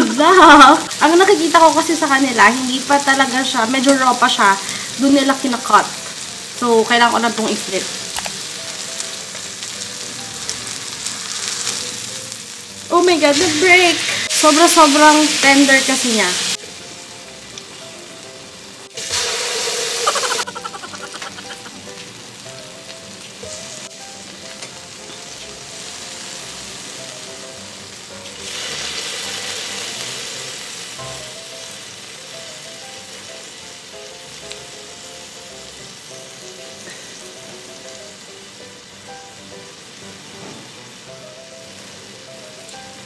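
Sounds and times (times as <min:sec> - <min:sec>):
steak sizzling on a griddle: 0:00.0 - 0:43.0.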